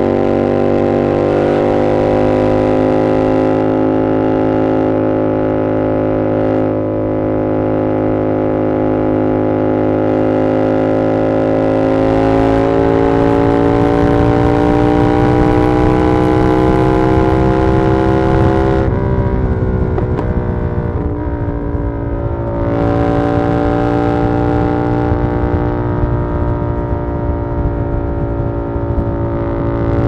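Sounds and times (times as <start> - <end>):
motorcycle engine under way: 0.0 - 30.0.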